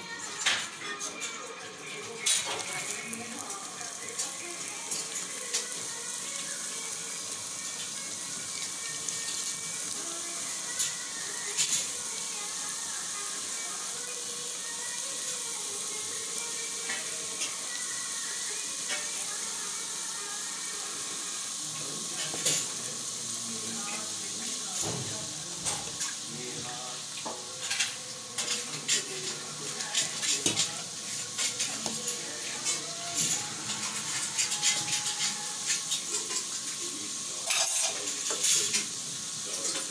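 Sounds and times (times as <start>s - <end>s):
oil sizzling in wok: 0.0s - 39.9s.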